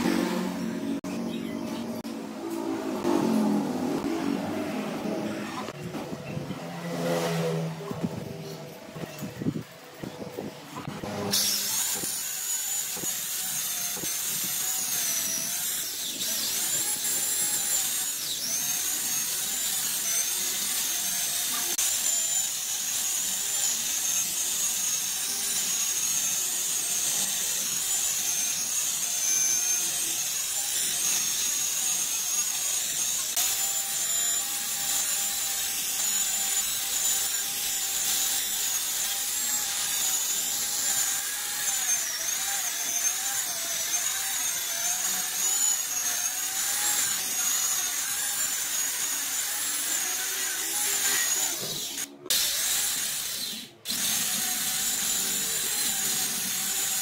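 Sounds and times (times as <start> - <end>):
electric chainsaw cutting log: 0.0 - 1.0, 2.1 - 5.8, 10.8 - 57.0.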